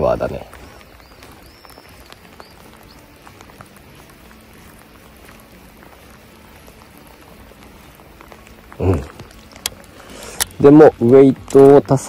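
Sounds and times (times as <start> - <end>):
soft hiss: 0.0 - 12.0
light ticks: 0.4 - 12.0.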